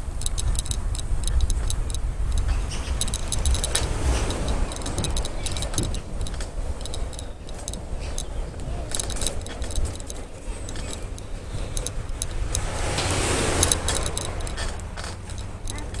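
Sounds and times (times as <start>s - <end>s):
light metallic bicycle rattles: 0.0s - 16.0s
wind rumble on microphone: 0.0s - 16.0s.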